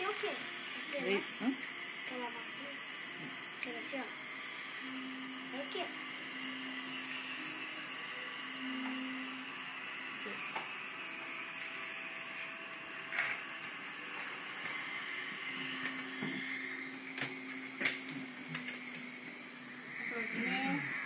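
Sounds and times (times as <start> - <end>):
dental suction hissing: 0.0 - 21.0.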